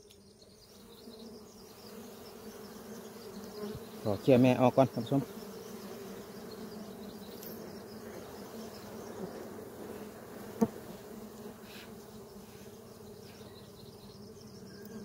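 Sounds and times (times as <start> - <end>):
bees buzzing: 0.2 - 15.0.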